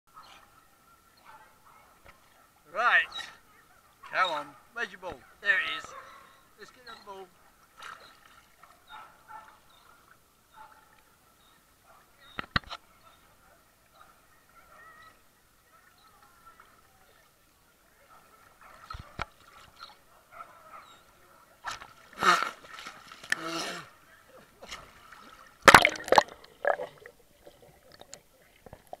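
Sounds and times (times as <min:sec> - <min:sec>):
faint distant voices: 0:00.1 - 0:29.0.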